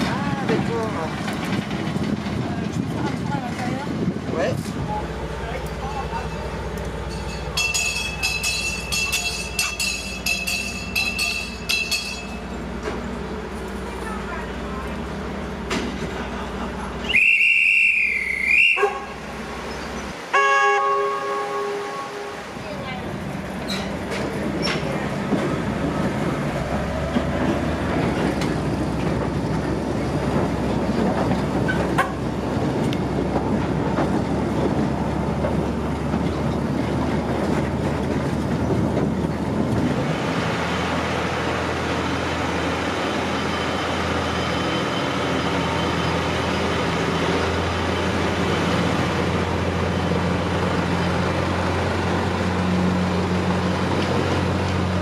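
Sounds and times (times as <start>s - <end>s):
carriages rumbling on track: 0.0s - 55.0s
diesel locomotive engine: 0.0s - 55.0s.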